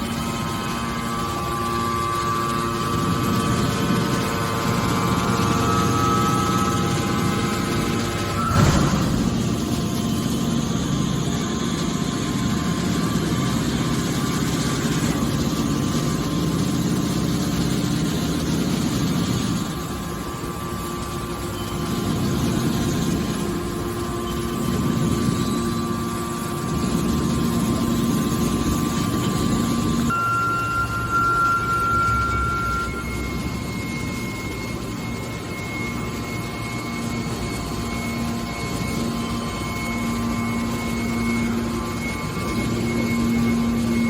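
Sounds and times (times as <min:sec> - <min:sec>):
baler machine hum: 0:00.0 - 0:44.0.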